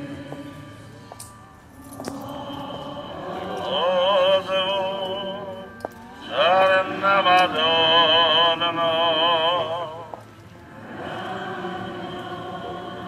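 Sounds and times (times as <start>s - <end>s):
faint singing: 0.0s - 13.0s
person singing a hymn: 0.0s - 13.0s.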